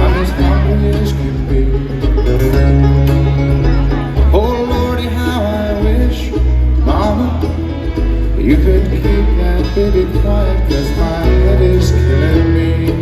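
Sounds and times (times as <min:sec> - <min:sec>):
heavy bass: 0:00.0 - 0:13.0
person singing: 0:00.0 - 0:13.0
plucked acoustic strings: 0:00.0 - 0:13.0.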